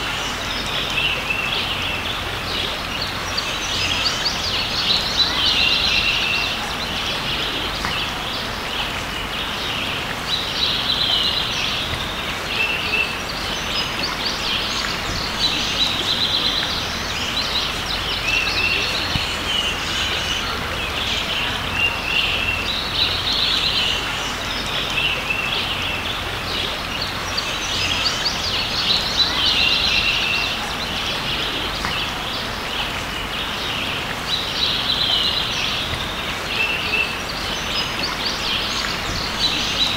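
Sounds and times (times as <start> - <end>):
creek running: 0.0 - 39.9
songbird singing: 0.0 - 39.9.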